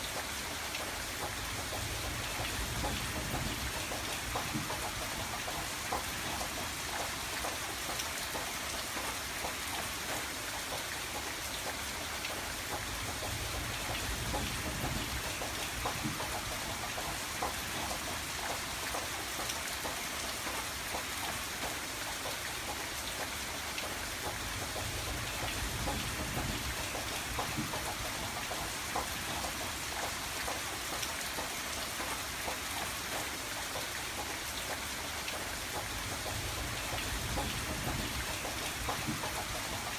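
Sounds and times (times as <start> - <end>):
rain falling against a window: 0.0 - 39.9.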